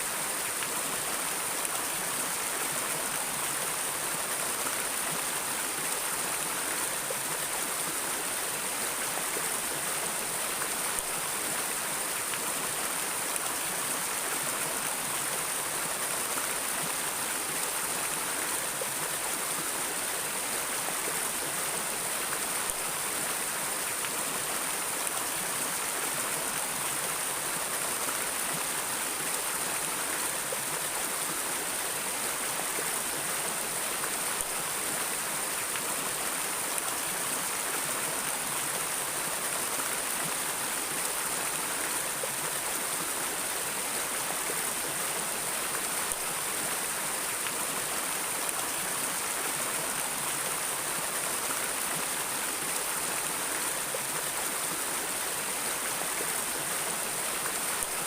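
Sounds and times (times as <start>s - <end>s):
water flowing over rocks: 0.0s - 58.0s.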